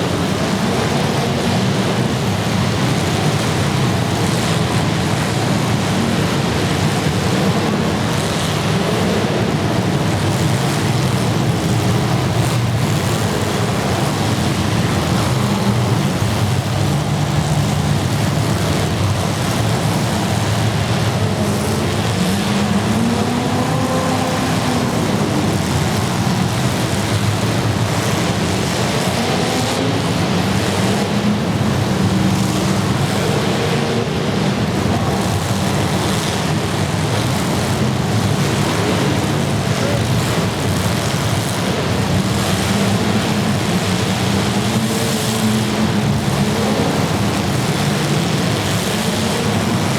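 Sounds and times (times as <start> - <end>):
car engines revving: 0.0 - 49.9.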